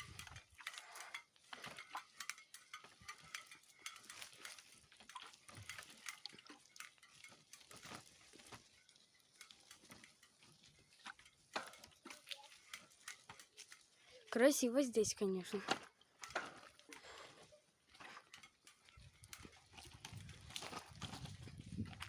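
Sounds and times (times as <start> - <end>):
bicycle rattling: 0.0 - 22.0
bicycle tyres crunching twigs: 0.0 - 22.0.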